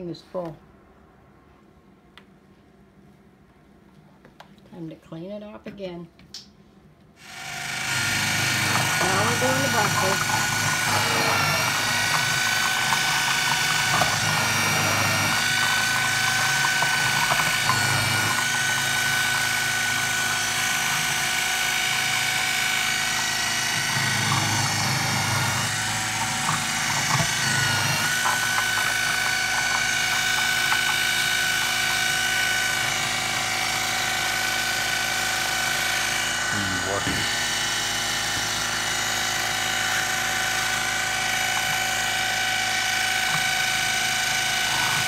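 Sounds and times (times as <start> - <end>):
food processor motor whine: 7.2 - 45.0.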